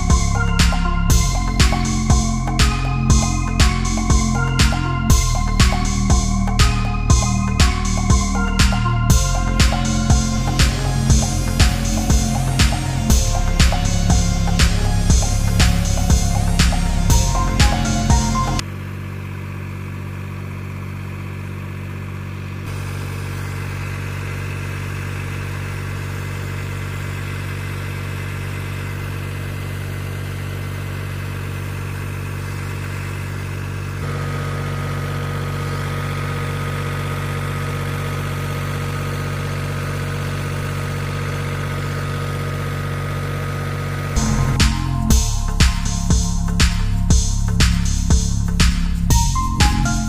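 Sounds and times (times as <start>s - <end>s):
diesel engine running steadily: 0.0s - 50.0s.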